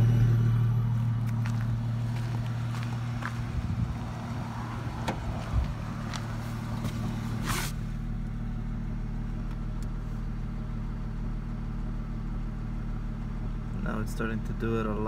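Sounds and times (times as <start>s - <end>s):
car engine idling with pops: 0.0s - 15.0s.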